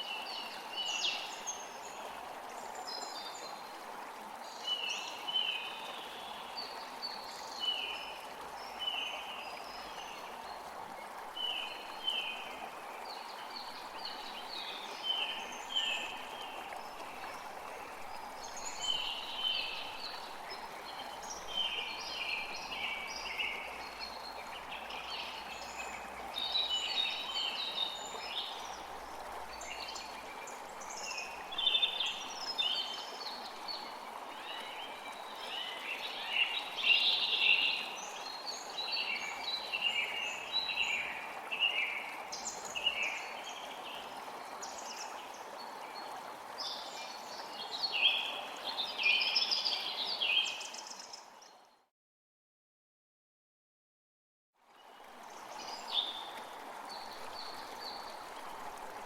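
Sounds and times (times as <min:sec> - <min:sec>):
creek running: 0:00.0 - 0:51.7, 0:54.6 - 0:59.0.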